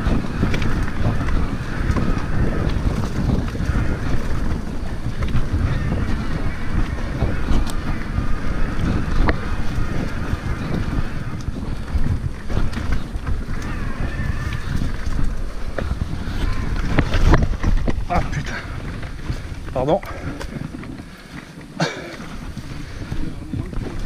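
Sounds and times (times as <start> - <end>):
wind rumbling over microphone: 0.0 - 24.0.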